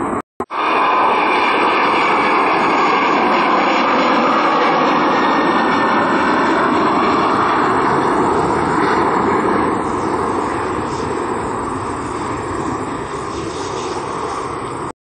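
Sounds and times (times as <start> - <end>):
jet engines at climb power: 0.0 - 15.0.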